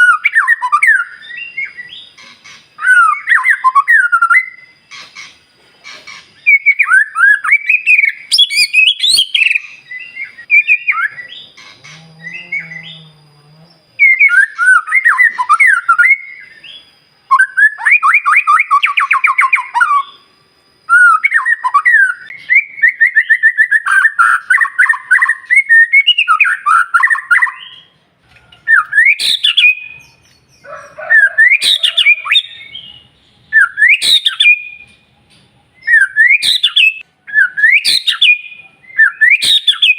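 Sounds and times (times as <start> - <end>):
bird singing whistles: 0.0 - 11.6, 14.0 - 27.9, 28.6 - 35.1, 35.7 - 39.9.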